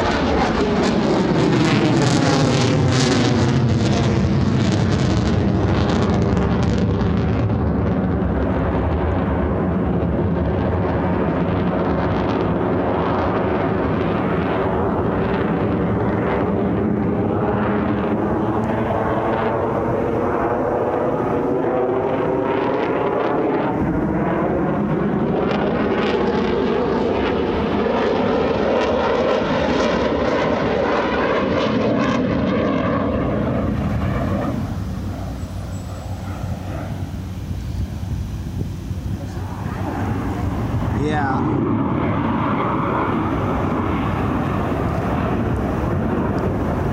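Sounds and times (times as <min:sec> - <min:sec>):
jet engine roaring: 0:00.0 - 0:46.9.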